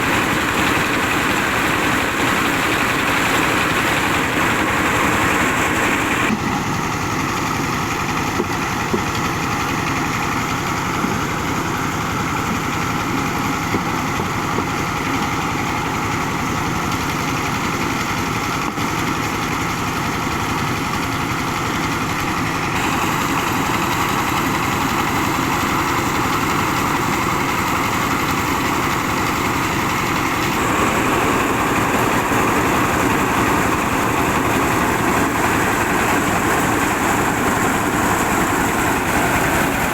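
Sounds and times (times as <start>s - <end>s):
car engine driving milling machine: 0.0s - 15.8s, 21.1s - 39.9s.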